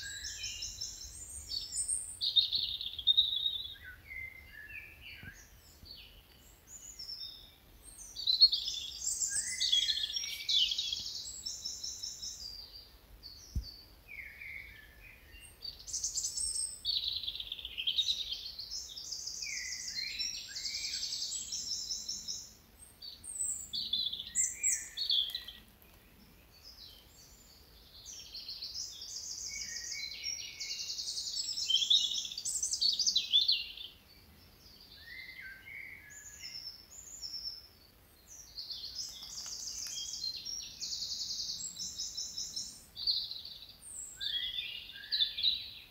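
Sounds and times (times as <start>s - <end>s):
songbirds trilling and chirping: 0.0s - 45.9s.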